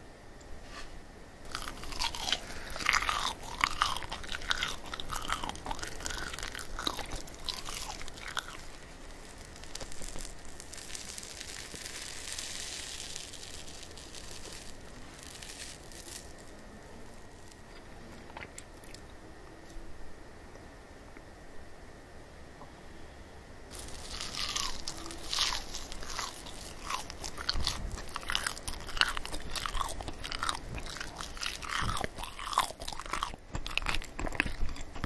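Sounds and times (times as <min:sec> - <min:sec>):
soft hissing rustle: 0:00.4 - 0:19.8, 0:22.7 - 0:32.2
chewing with mouth clicks: 0:01.5 - 0:16.5, 0:17.1 - 0:19.1, 0:23.7 - 0:35.0.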